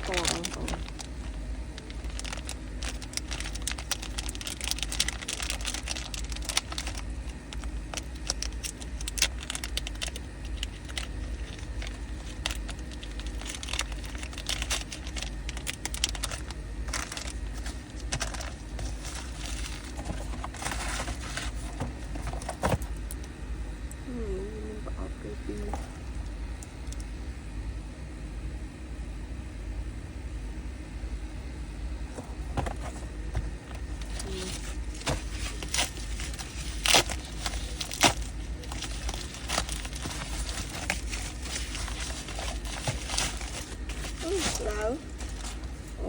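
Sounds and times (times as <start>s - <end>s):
packaging crinkling: 0.0s - 23.4s, 25.5s - 27.1s, 32.1s - 46.0s
steady low hum: 0.0s - 46.0s.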